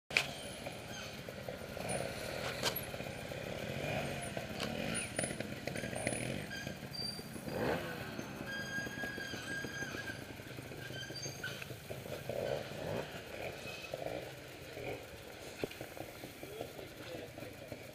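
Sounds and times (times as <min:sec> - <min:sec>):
motorcycle engine revving: 0:00.1 - 0:17.9.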